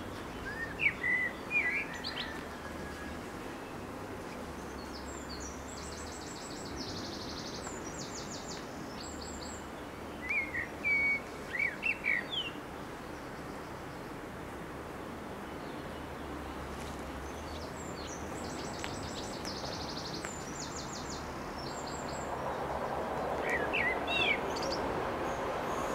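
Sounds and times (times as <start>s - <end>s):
songbirds singing: 0.0s - 14.5s, 15.3s - 25.9s
steady background noise: 0.0s - 25.9s.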